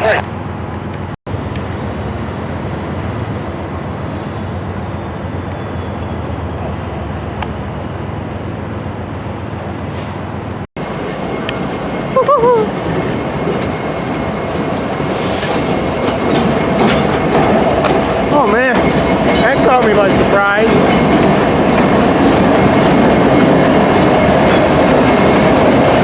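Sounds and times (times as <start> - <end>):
diesel locomotive rumble: 0.0 - 26.0.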